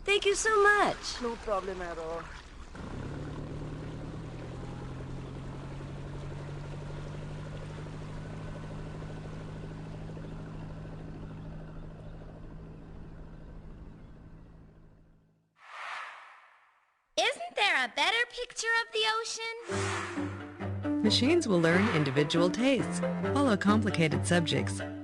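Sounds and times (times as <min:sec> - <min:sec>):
boat engine humming: 0:00.0 - 0:15.3, 0:20.2 - 0:25.0.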